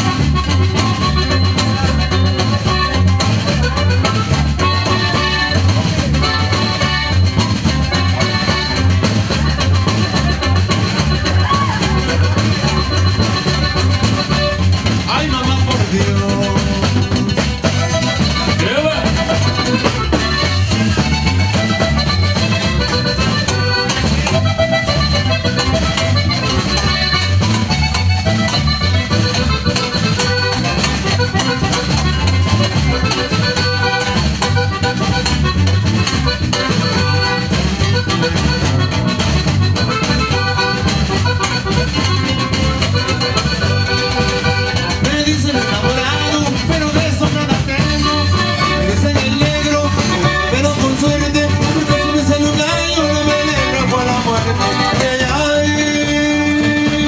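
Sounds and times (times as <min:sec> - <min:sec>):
accordion melody: 0:00.0 - 0:57.0
bass: 0:00.0 - 0:57.0
guitar: 0:00.0 - 0:57.0
pulsing beat: 0:00.0 - 0:57.0.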